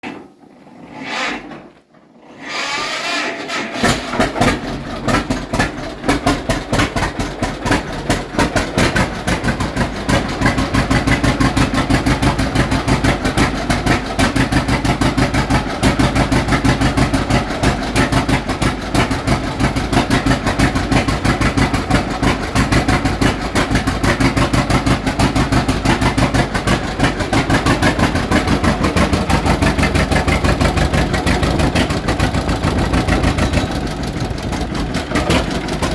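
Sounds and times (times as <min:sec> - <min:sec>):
tractor engine starting and idling: 0:02.4 - 0:35.9.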